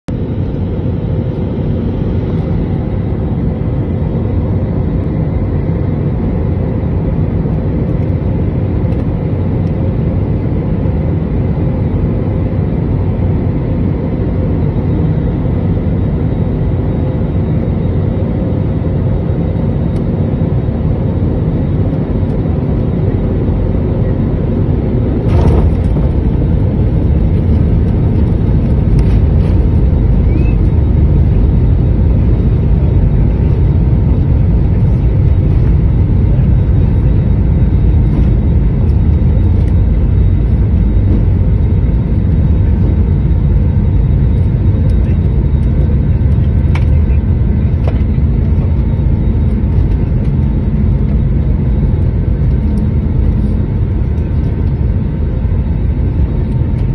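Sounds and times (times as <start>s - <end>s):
jet engines rumbling: 0.1s - 56.9s.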